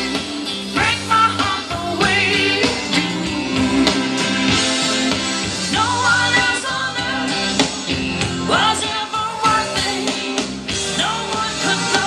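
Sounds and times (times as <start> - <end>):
song with full band: 0.0 - 12.0.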